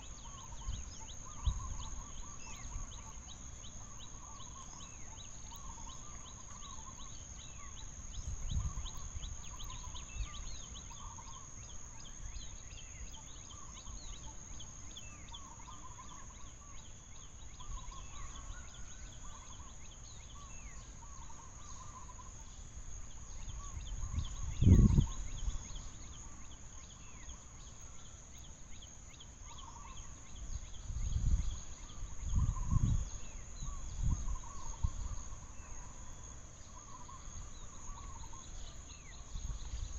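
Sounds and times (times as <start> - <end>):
bird calls: 0.0 - 39.9
insect drone: 0.0 - 39.9.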